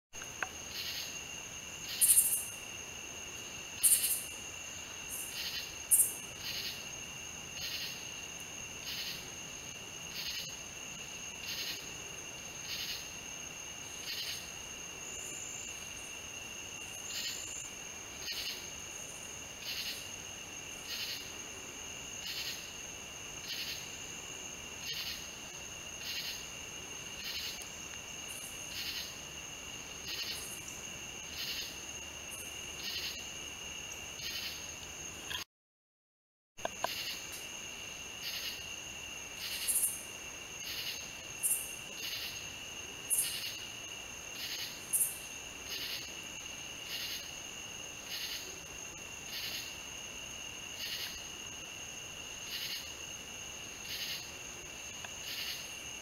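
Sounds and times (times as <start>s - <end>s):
insect chirps: 0.1s - 35.5s, 36.6s - 56.0s
high-pitched insect trill: 0.2s - 35.5s, 36.6s - 56.0s.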